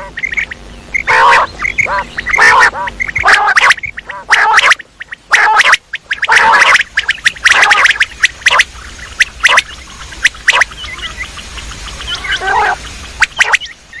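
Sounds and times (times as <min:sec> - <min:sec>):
faint high chirps: 0:00.0 - 0:14.0
quail calling: 0:00.0 - 0:14.0.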